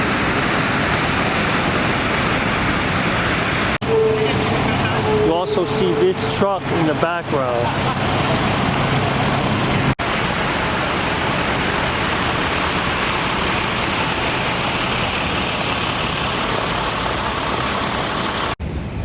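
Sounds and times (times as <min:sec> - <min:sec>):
water fountain splashing: 0:00.0 - 0:03.8, 0:06.5 - 0:18.6.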